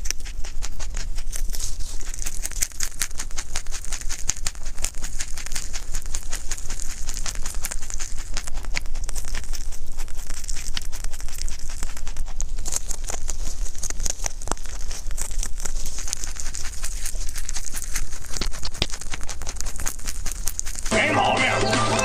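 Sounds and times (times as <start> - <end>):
rabbit chewing leaves: 0.0 - 22.0.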